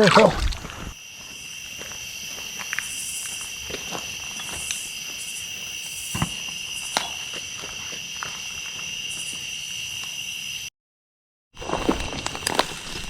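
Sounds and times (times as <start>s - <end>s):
insects droning: 0.0s - 10.7s, 11.6s - 13.0s.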